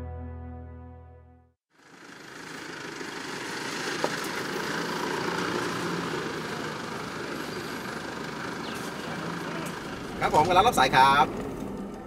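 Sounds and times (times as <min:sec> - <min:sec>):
traffic noise: 0:01.7 - 0:12.0
vehicle engine running: 0:01.7 - 0:12.0.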